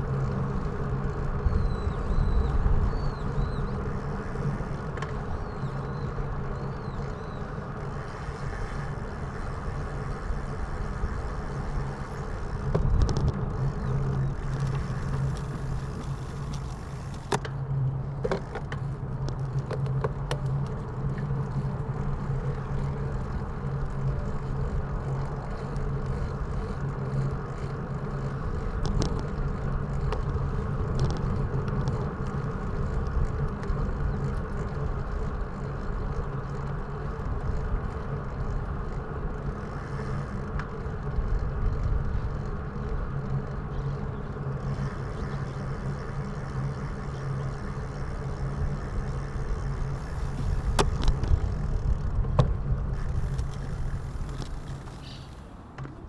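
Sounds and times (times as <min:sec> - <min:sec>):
road noise: 0:00.0 - 0:56.0
vehicle running hum: 0:00.0 - 0:56.0.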